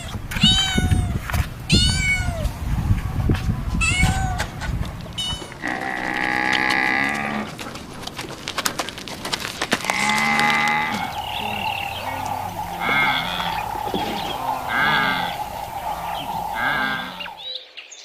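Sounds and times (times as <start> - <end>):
farm animal calls: 0.0 - 17.5.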